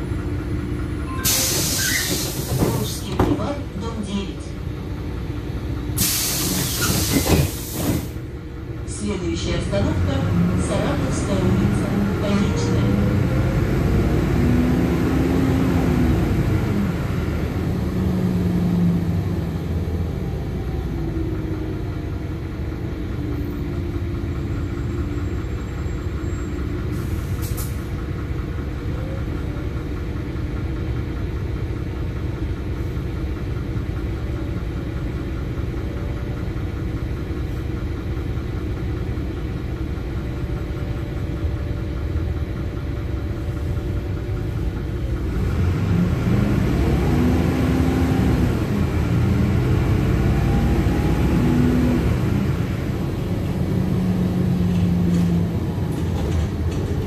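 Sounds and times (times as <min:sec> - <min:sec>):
bus drivetrain whine: 0:00.0 - 0:57.0
diesel engine idling rumble: 0:00.0 - 0:57.0.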